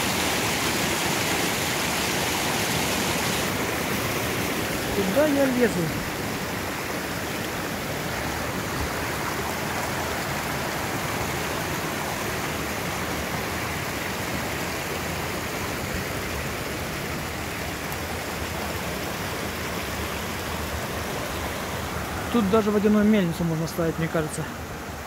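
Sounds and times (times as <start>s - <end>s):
stream rushing over boulders: 0.0s - 25.0s.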